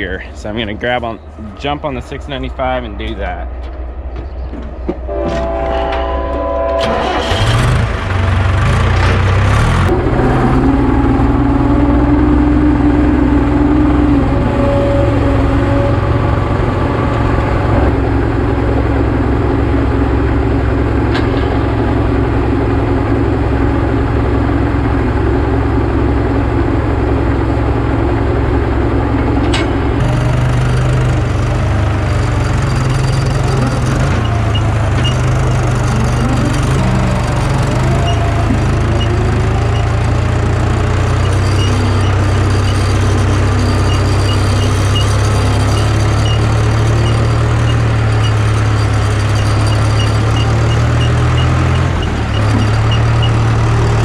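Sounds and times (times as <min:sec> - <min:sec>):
tractor engine starting and running: 0:00.0 - 0:54.0.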